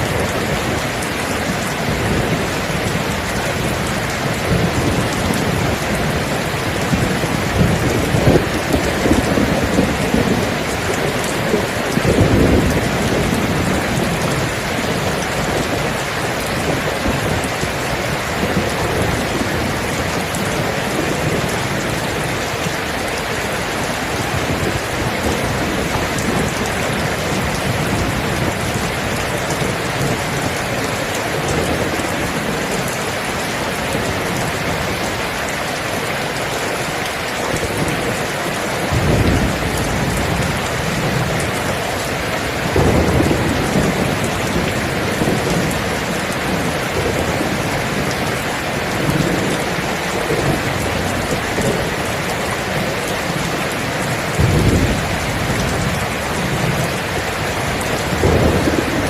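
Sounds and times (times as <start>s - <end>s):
thunder rumbling: 0.0s - 35.4s, 36.5s - 59.0s
heavy rain: 0.0s - 59.0s.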